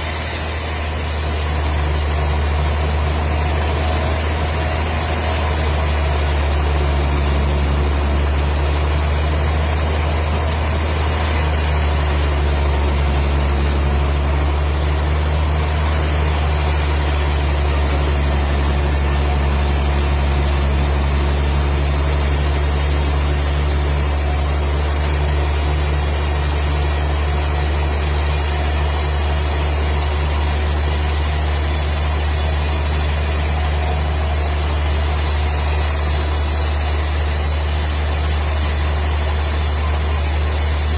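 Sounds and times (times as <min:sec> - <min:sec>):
machine engine humming: 0:00.0 - 0:40.9.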